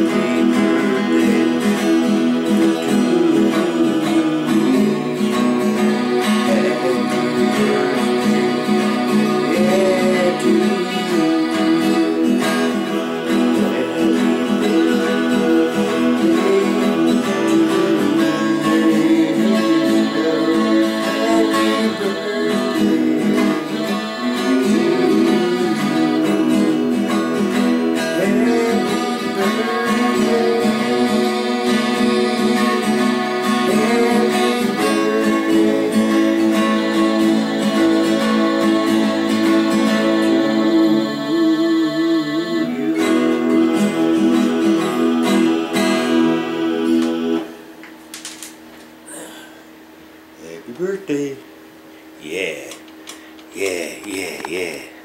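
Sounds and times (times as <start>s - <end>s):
man singing: 0.0s - 47.5s, 53.5s - 55.0s
acoustic guitar strummed: 0.0s - 55.0s.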